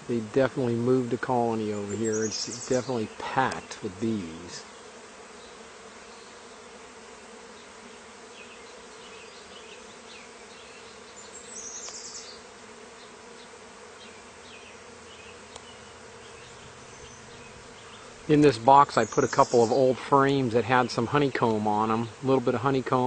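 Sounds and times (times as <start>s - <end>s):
honeybee swarm buzzing: 0.0s - 23.0s.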